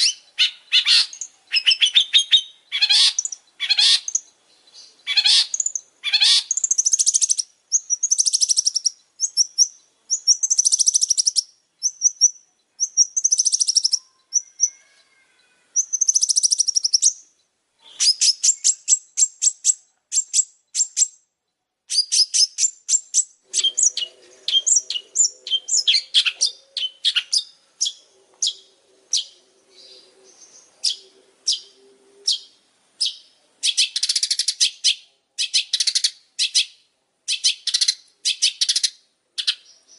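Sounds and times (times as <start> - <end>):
shrike singing buzzy trills: 0.0 - 15.0, 15.7 - 21.3, 21.9 - 39.9.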